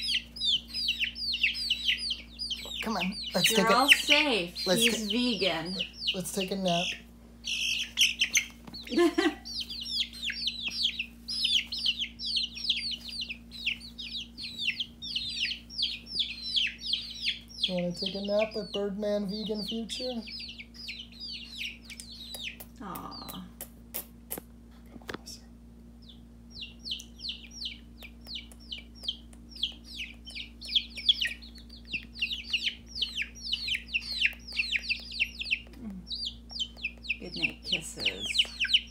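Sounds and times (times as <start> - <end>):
chicks peeping: 0.0 - 24.5, 25.9 - 38.9.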